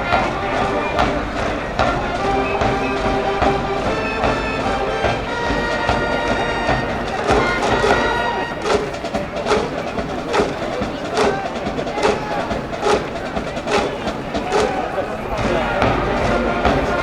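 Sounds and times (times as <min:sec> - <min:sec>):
brass band cheer song: 0:00.0 - 0:17.0
steady drumbeat: 0:00.0 - 0:17.0.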